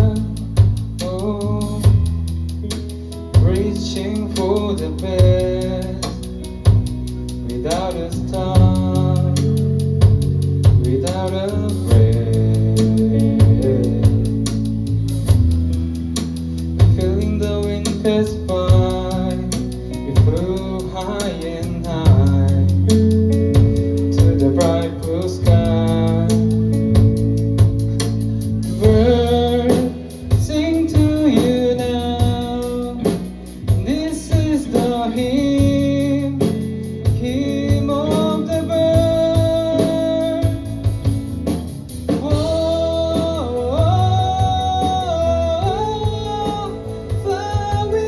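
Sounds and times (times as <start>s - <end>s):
bass guitar: 0.0s - 48.0s
drum kit: 0.0s - 48.0s
guitars: 0.0s - 48.0s
person singing: 3.3s - 6.8s, 7.4s - 14.8s, 16.8s - 27.3s, 28.4s - 41.0s, 42.1s - 48.0s.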